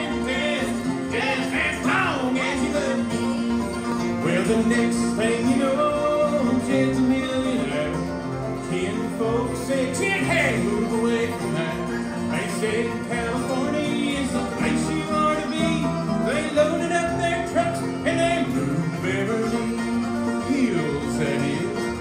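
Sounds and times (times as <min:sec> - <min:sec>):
person singing: 0:00.0 - 0:03.3, 0:04.2 - 0:22.0
acoustic guitar: 0:00.0 - 0:22.0
banjo: 0:00.0 - 0:22.0.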